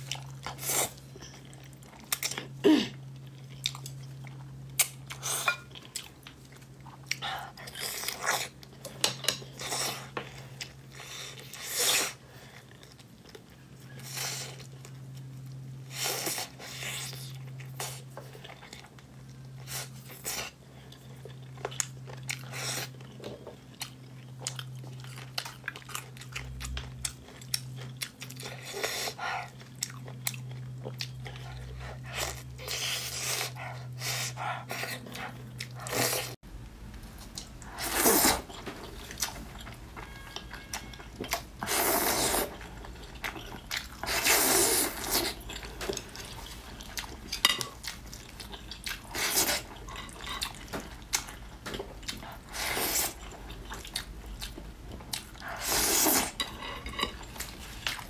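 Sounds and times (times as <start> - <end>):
chewing and wet mouth sounds: 0.0 - 58.0.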